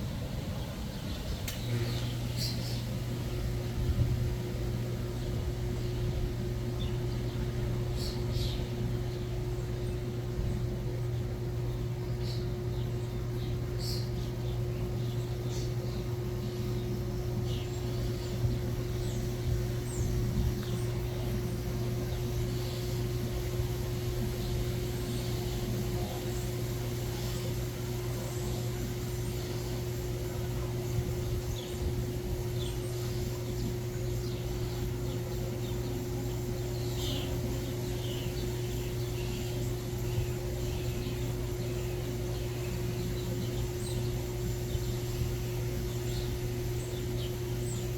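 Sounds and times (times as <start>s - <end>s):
small birds chirping: 0.0s - 47.9s
steady low hum: 0.0s - 47.9s.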